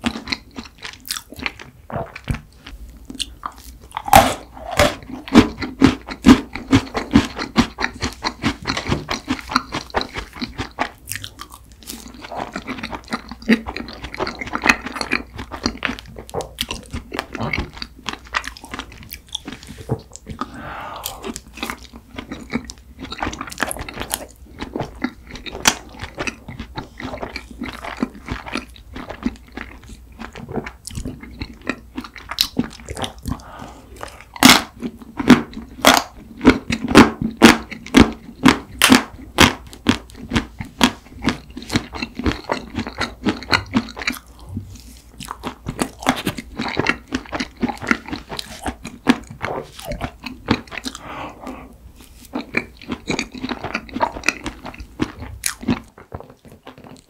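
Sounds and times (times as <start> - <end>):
person chewing with mouth clicks: 0.0 - 57.0.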